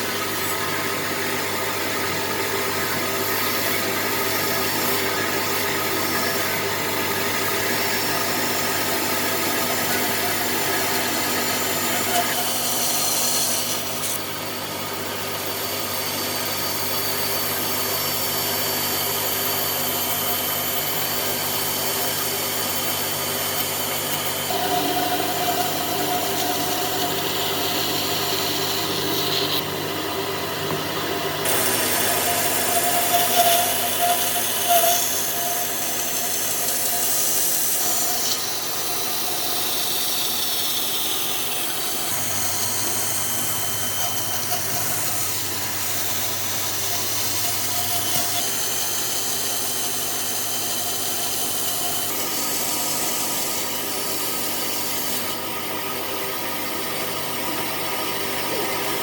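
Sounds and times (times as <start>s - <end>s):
power tool on wood: 0.0s - 59.0s.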